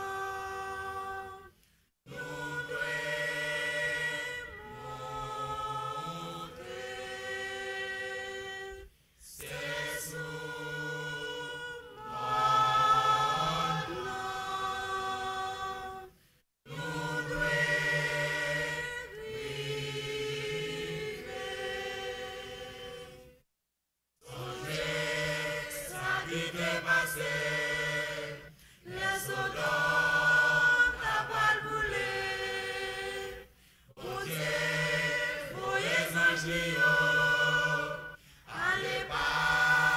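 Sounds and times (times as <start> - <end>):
church choir singing: 0.0 - 1.5, 2.1 - 23.4, 24.2 - 39.9.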